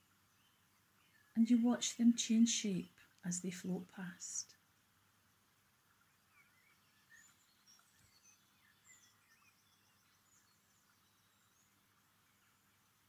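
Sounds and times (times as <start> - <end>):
faint birds chirping: 0.0 - 13.0
soft steady hiss: 0.0 - 13.0.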